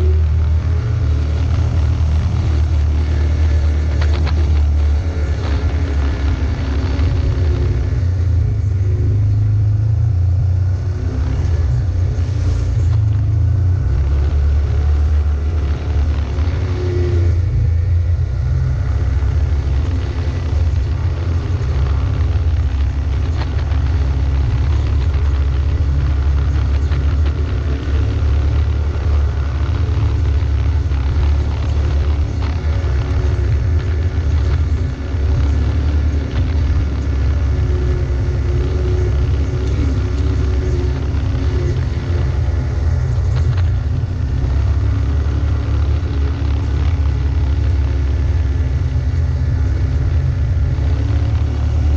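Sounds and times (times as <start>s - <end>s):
deep constant rumble: 0.0s - 51.9s
vehicle engine running: 0.0s - 51.9s.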